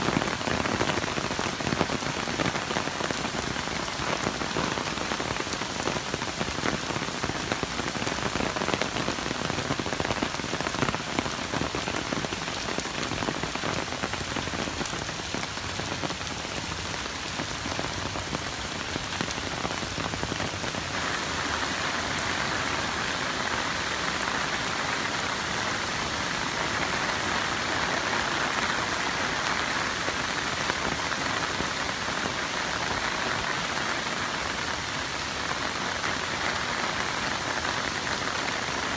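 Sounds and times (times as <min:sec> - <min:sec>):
heavy rain on wet pavement: 0:00.0 - 0:38.9.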